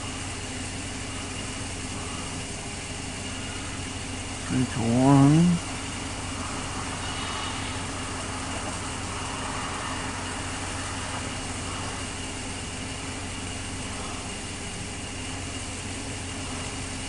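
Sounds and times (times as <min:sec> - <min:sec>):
diesel locomotive engine droning: 0:00.0 - 0:17.0.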